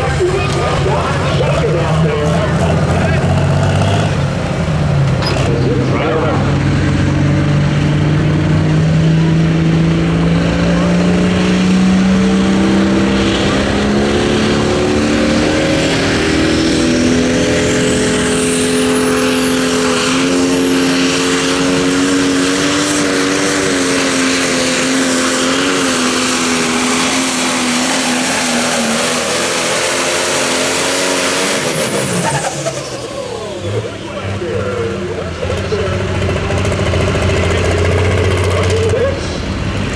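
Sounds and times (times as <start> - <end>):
diesel tractor engine under load: 0.0 - 39.9
high turbo whine: 0.0 - 39.9.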